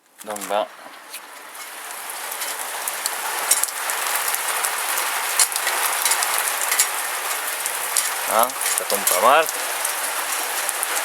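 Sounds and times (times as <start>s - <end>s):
heavy rain on steel roof: 0.0s - 11.0s.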